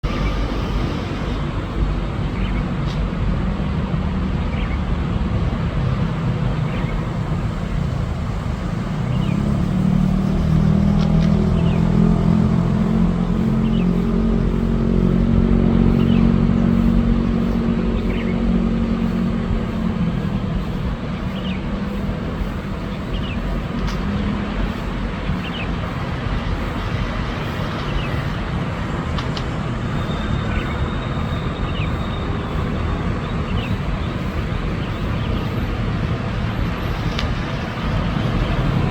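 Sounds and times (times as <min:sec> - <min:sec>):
road traffic rumble: 0:00.0 - 0:38.9
vehicle engine passing: 0:07.4 - 0:38.9.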